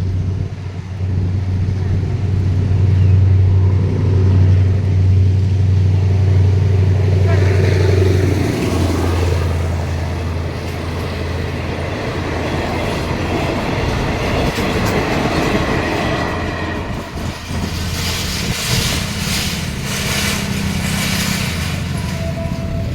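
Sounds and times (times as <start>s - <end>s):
locomotive engine hum: 0.0s - 22.9s
train coaches rumbling: 0.0s - 22.9s
wheel clatter over rail joints: 0.0s - 22.9s.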